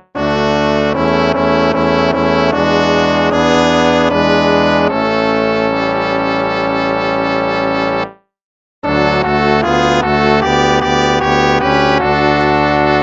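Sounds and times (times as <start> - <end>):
brass hymn chords: 0.0 - 8.2, 8.8 - 13.0.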